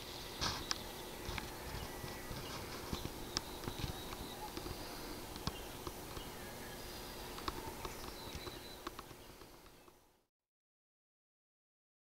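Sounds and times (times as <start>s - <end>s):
faint outdoor hiss: 0.0s - 10.3s.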